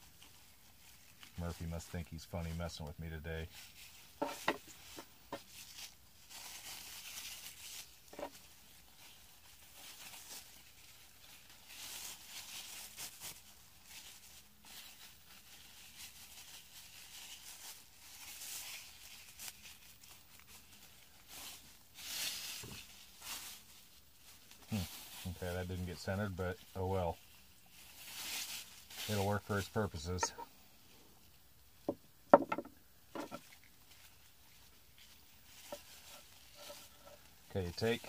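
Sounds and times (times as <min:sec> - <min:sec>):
plastic bag rustling and crinkling: 0:00.0 - 0:38.0.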